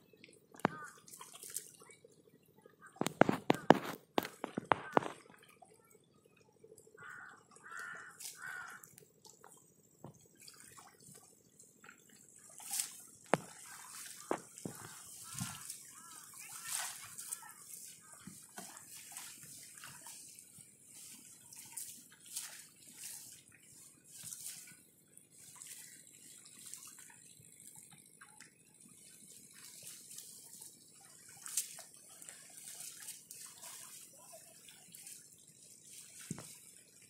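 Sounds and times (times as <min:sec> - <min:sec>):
shallow water splashing: 0:00.0 - 0:37.0
water dripping: 0:00.0 - 0:37.0.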